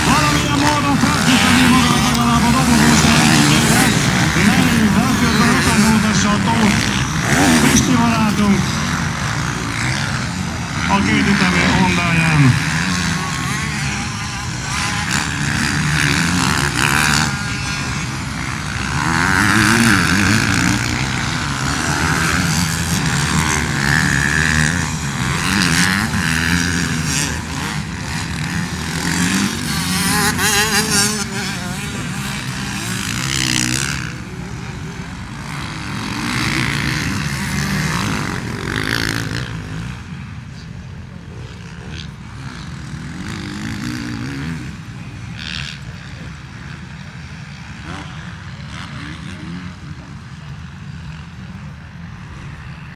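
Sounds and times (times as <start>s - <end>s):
motocross engines revving: 0.0s - 52.9s.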